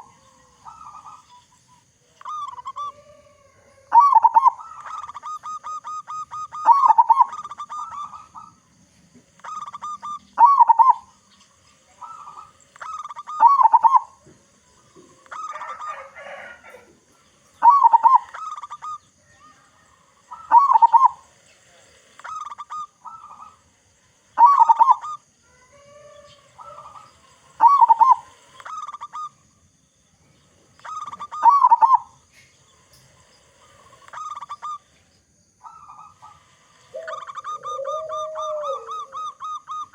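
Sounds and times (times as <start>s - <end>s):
dove cooing song: 0.0s - 29.4s, 30.4s - 35.0s, 35.6s - 39.9s.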